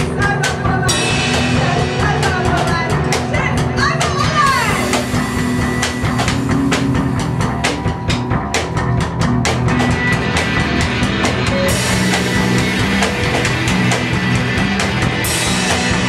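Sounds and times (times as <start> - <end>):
rapid drum and cymbal hits: 0.0 - 16.0
rock band playing: 0.0 - 16.0.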